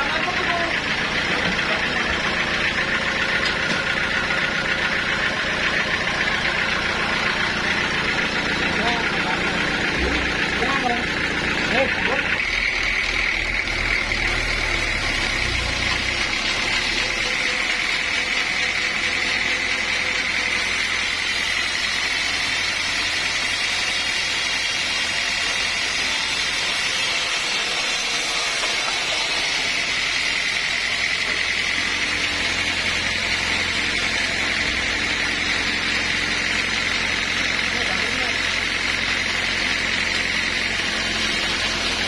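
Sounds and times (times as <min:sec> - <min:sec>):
sawmill machinery running: 0:00.0 - 0:42.0.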